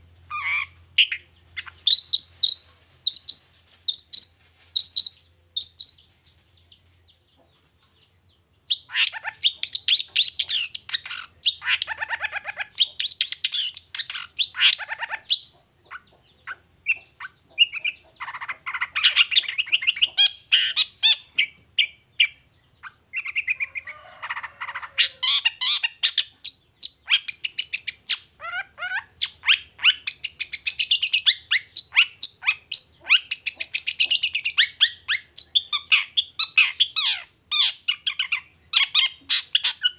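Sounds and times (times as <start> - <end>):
shrike singing chattering song: 0.3 - 7.4, 8.6 - 39.9.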